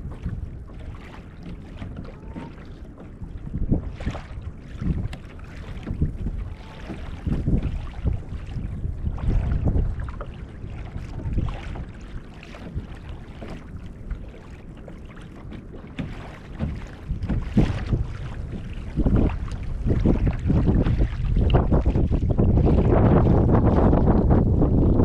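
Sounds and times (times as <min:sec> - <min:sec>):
water slapping against hull: 0:00.0 - 0:25.0
wind buffeting microphone: 0:00.0 - 0:25.0.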